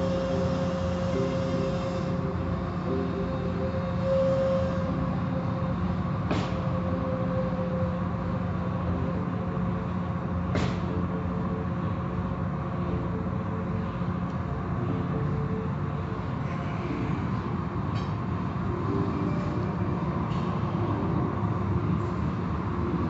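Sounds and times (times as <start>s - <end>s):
car wash machinery hum: 0.0s - 23.0s.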